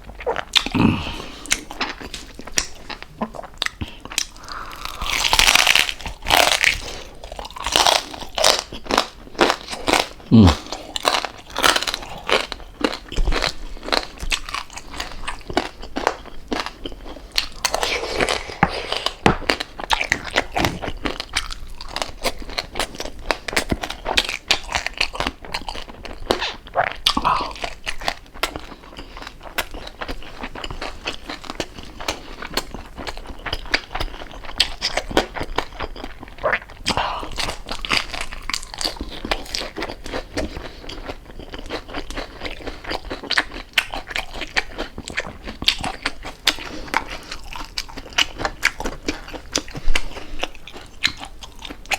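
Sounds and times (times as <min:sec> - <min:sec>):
crunching and chewing: 0:00.0 - 0:51.9.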